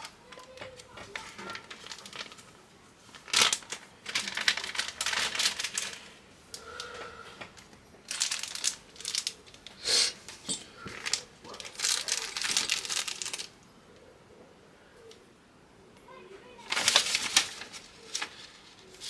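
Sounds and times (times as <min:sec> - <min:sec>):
plastic crinkling: 0:00.0 - 0:13.6, 0:16.4 - 0:19.0.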